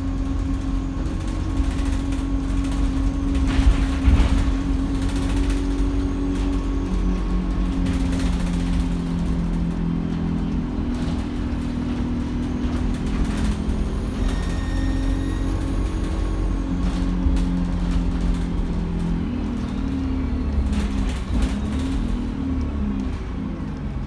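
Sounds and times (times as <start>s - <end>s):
diesel bus engine running: 0.0s - 24.0s.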